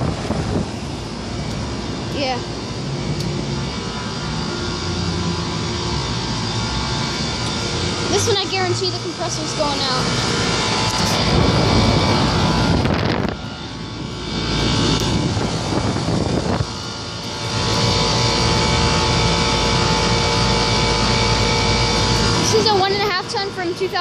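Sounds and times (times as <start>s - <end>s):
condenser fans rushing air: 0.0s - 24.0s
steady hum: 0.0s - 24.0s.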